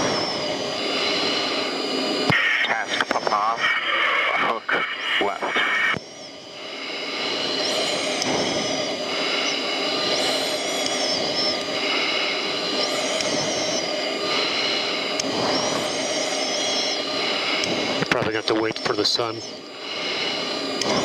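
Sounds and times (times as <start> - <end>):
faint steady high tones: 0.0 - 21.0
jet engine and rushing air: 0.0 - 21.0.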